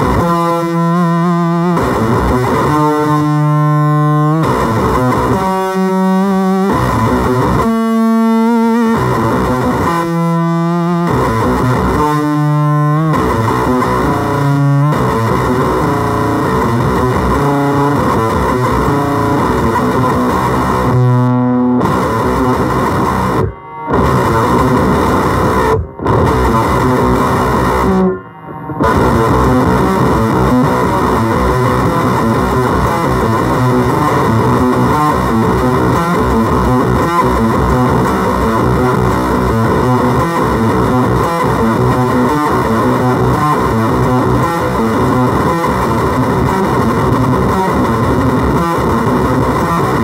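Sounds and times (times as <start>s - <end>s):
fuzzed electric guitar: 0.0s - 50.0s.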